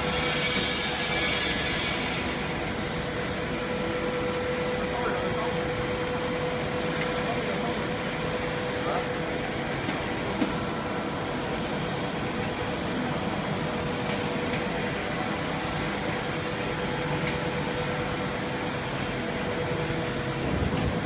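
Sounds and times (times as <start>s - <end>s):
machine motors whirring: 0.0s - 21.0s.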